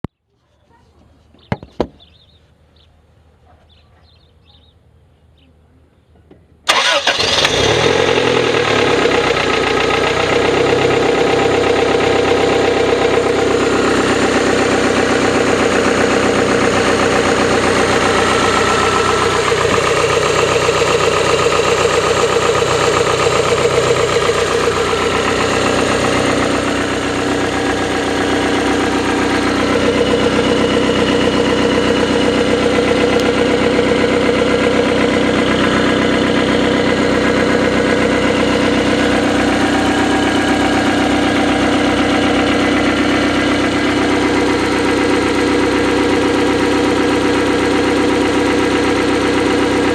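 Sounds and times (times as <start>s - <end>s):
car engine idling with knock: 1.4s - 2.2s, 7.4s - 49.9s.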